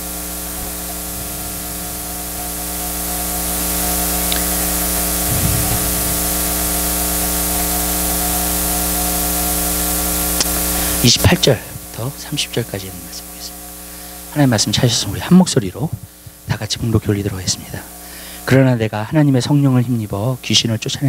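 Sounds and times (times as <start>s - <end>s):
low electrical hum: 0.0s - 21.0s
steady hiss: 0.0s - 21.0s.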